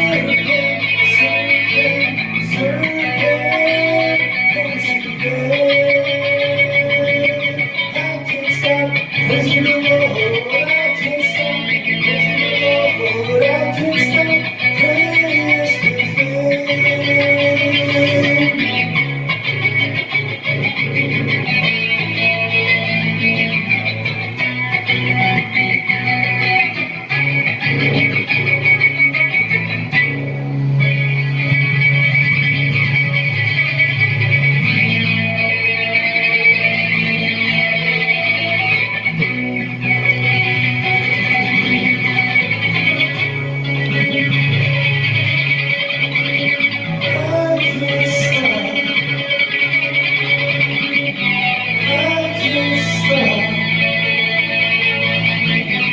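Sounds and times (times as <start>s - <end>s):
guitar music through sound system: 0.0s - 55.9s.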